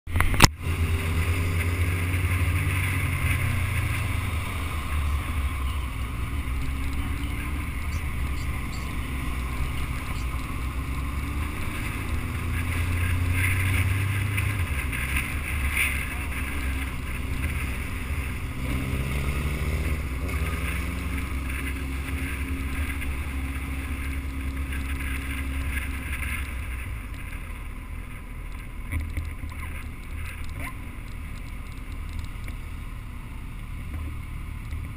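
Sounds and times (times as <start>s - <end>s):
motorcycle engine: 0.1s - 34.9s.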